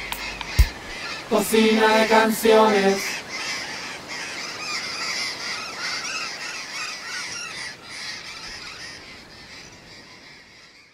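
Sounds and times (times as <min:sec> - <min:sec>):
flock of birds calling: 0:00.0 - 0:10.9.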